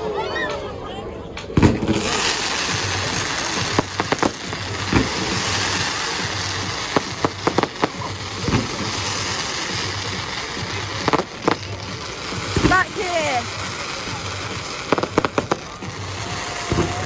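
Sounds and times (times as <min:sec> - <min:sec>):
fireworks banging: 0:01.4 - 0:17.0
steady rushing noise: 0:02.3 - 0:17.0.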